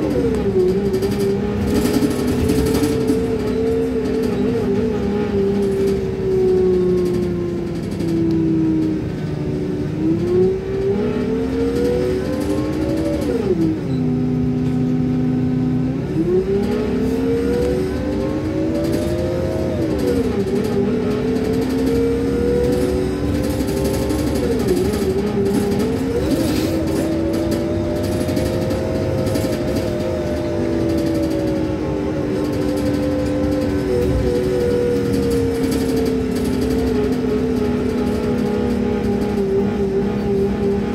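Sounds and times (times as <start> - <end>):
bus drivetrain whine: 0.0 - 40.9
bus engine low rumble: 0.0 - 40.9.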